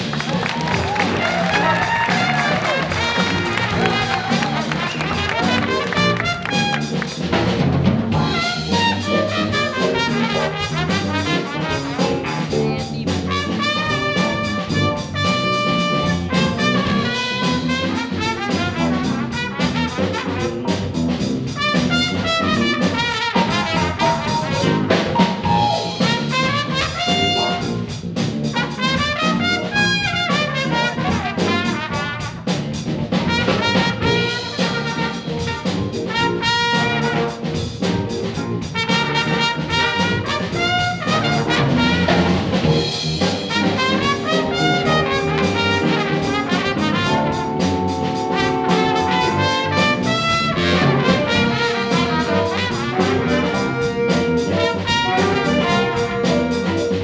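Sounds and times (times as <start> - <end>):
big band playing funk: 0.0 - 57.0
drum kit beat: 0.0 - 57.0.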